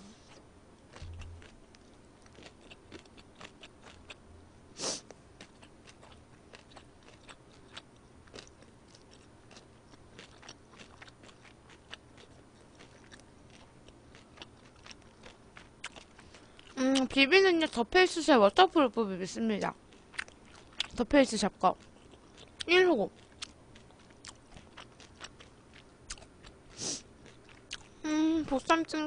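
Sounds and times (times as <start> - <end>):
chewing food: 0.2 - 4.2, 5.0 - 17.9, 19.6 - 28.0.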